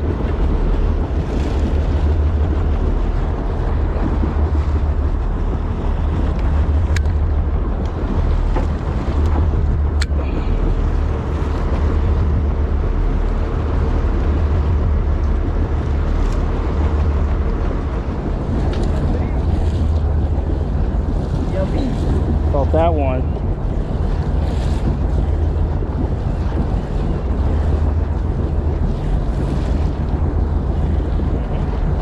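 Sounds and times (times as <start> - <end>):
boat hum: 0.0 - 32.0
water noise: 0.0 - 32.0
wind buffeting microphone: 0.0 - 32.0.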